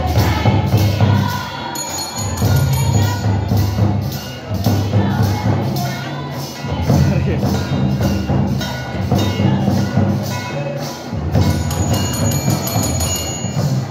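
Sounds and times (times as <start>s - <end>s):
drums beating: 0.0s - 13.9s.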